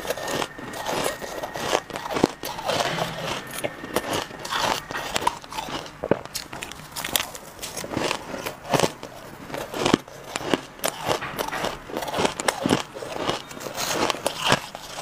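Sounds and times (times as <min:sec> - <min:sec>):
crunching shaved ice: 0:00.0 - 0:15.0.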